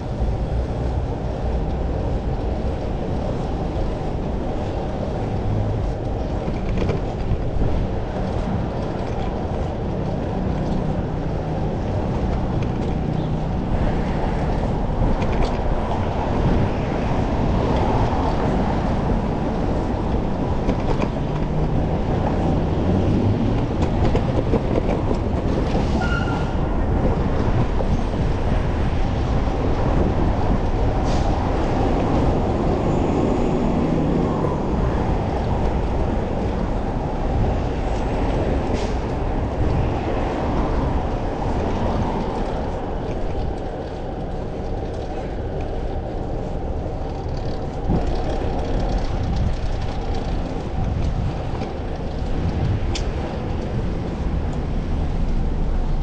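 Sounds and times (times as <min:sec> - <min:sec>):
wind and road noise from bicycle: 0:00.0 - 0:56.0.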